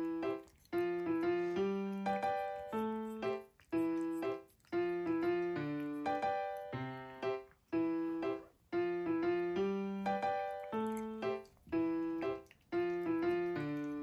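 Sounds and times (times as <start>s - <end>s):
light keyboard tune: 0.0s - 14.0s.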